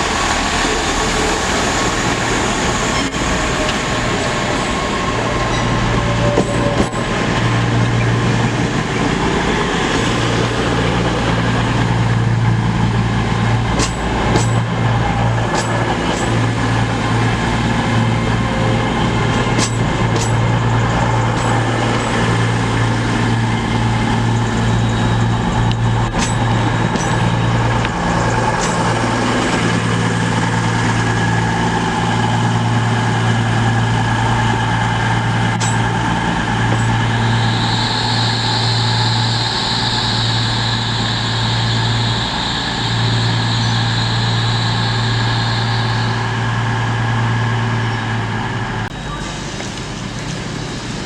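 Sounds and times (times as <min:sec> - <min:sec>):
train engine idling: 0:00.0 - 0:51.0.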